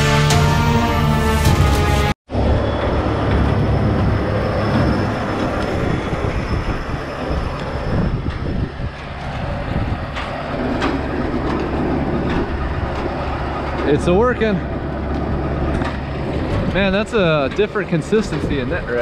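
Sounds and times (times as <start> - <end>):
baler mechanical rumble: 1.4 - 19.0.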